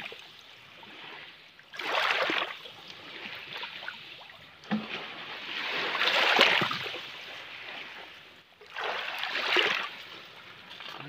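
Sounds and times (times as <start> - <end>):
small waves lapping on gravel: 0.0 - 11.0.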